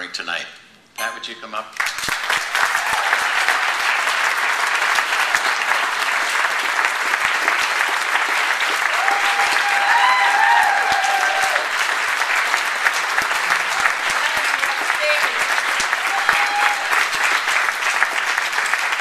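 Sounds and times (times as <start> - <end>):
audience applauding: 1.8 - 19.0.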